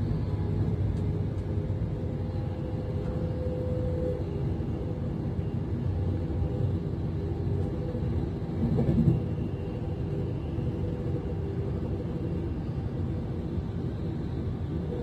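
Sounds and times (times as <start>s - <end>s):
rumble of train wheels on rails: 0.0s - 15.0s.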